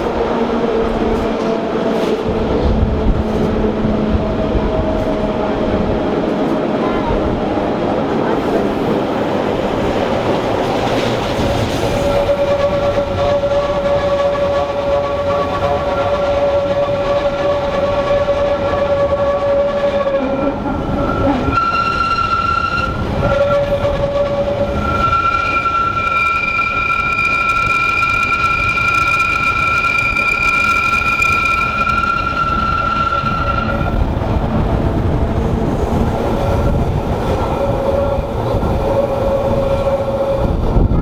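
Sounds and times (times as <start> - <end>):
train running noise: 0.0 - 41.0
train wheel squeal: 8.2 - 41.0.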